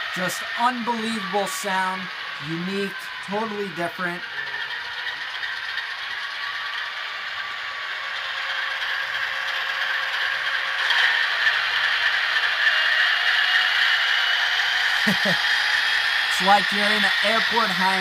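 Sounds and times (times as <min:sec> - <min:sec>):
model locomotive engine sound: 0:00.0 - 0:18.0.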